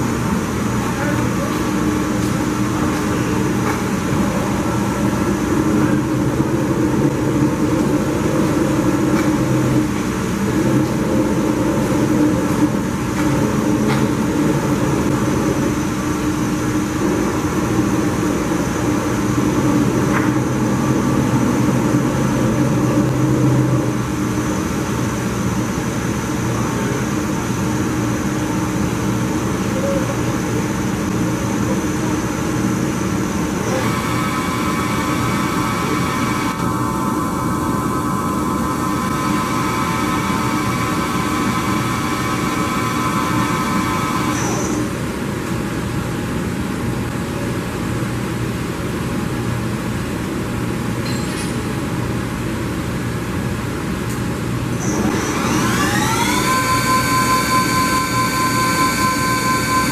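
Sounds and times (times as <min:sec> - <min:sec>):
machine steady mechanical hum: 0:00.0 - 0:59.9.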